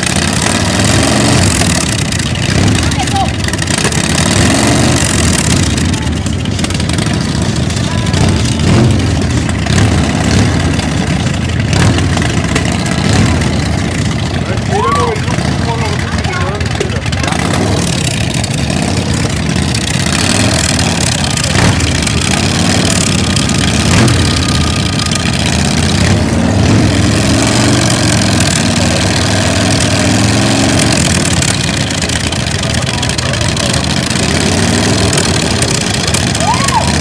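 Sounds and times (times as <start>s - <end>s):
crowd noise: 0.0s - 37.0s
motorcycle engine idling: 0.0s - 37.0s.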